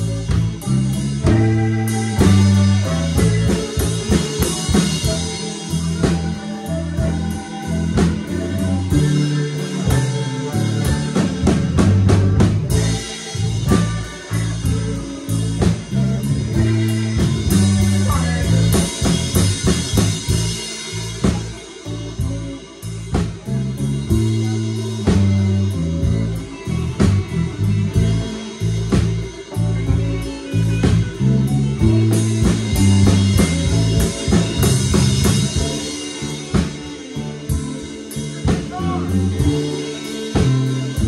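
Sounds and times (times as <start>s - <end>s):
drum kit beat: 0.0s - 41.0s
electric guitars: 0.0s - 41.0s
harmonica: 0.0s - 41.0s.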